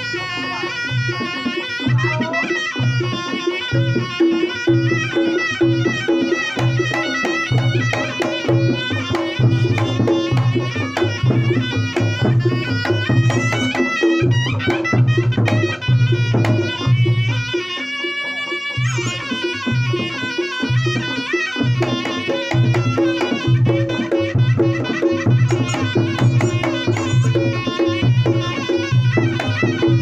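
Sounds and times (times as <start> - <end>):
drums beating steady rhythm: 0.0 - 30.0
reed pipe playing ornamented melody: 0.0 - 30.0.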